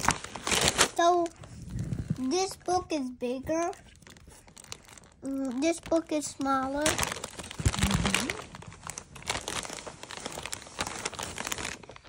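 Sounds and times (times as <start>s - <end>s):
plastic snack bag crinkling: 0.0s - 12.0s.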